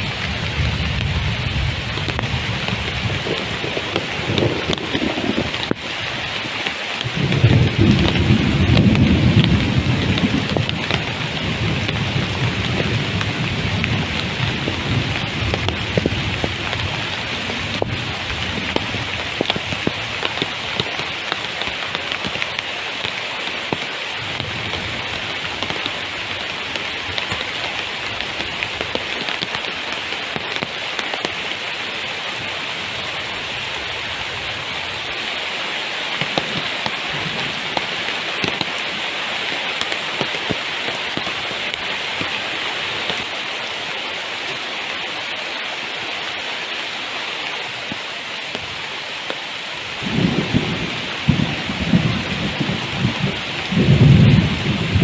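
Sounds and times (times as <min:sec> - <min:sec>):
heavy rain falling: 0:00.0 - 0:55.0
raindrops tapping: 0:00.0 - 0:55.0.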